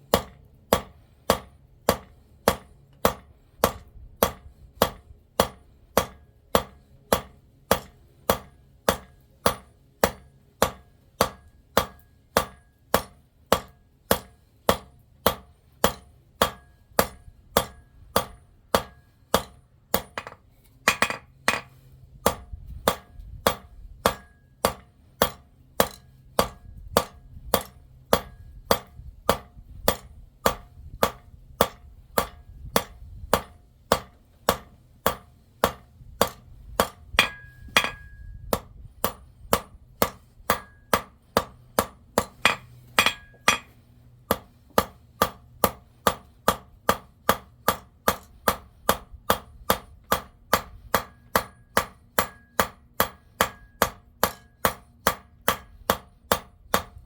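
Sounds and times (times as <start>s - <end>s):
hammer striking metal on anvil: 0.1s - 56.9s.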